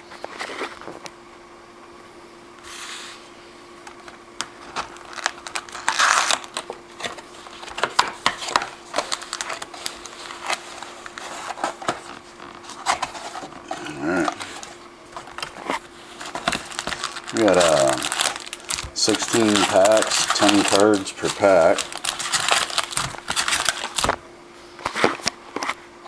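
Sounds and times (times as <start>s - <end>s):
faint steady hum: 0.0s - 26.0s
card packs clicking and tapping: 3.8s - 24.2s, 24.8s - 25.8s
packaging crinkle: 3.8s - 24.2s, 24.8s - 25.8s.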